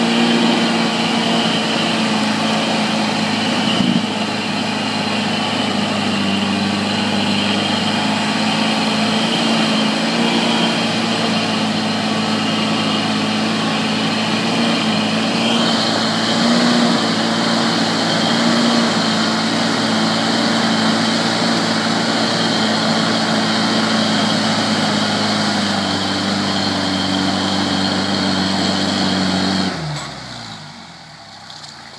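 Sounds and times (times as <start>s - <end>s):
truck engine running under load: 0.0s - 31.9s.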